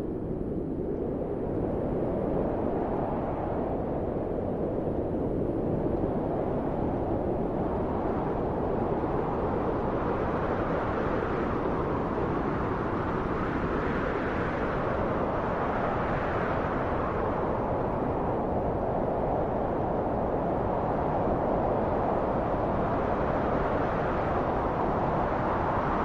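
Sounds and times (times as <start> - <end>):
low wind blowing: 0.0 - 26.0.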